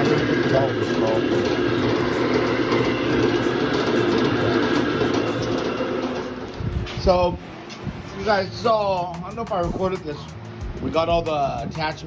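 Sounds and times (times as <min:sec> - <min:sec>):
metal-shop machinery rumbling: 0:00.0 - 0:12.0.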